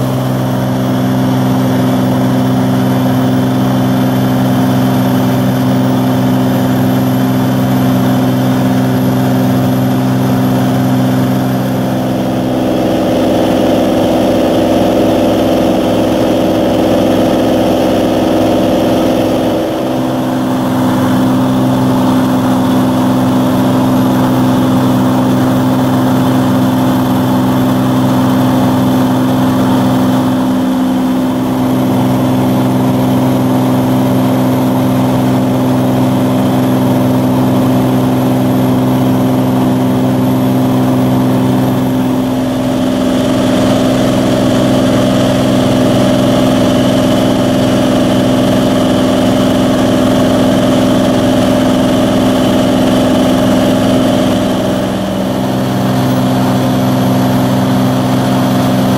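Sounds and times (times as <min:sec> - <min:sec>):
aircraft engine droning in cabin: 0:00.0 - 0:58.9.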